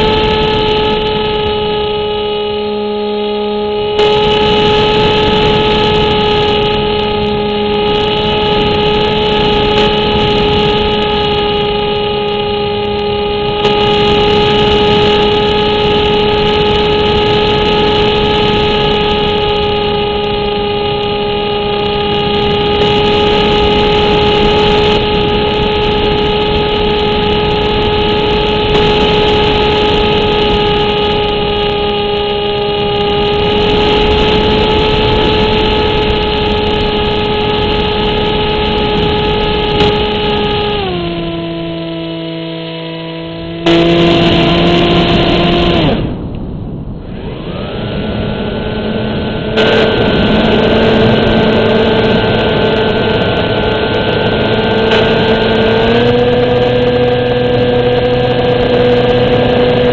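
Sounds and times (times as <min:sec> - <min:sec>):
model plane motor drone: 0:00.0 - 0:46.4, 0:47.0 - 0:59.9
wind rush: 0:00.0 - 0:59.9.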